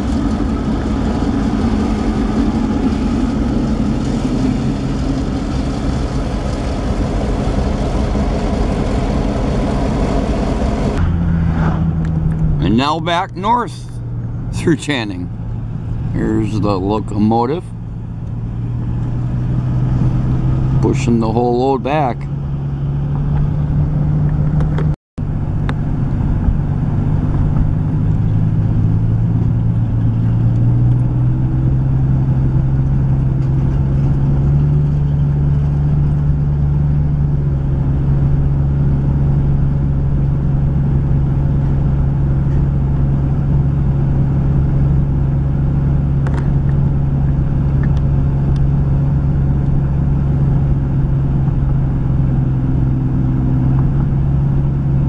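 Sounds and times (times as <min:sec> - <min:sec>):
car road noise and engine drone: 0:00.0 - 0:55.0.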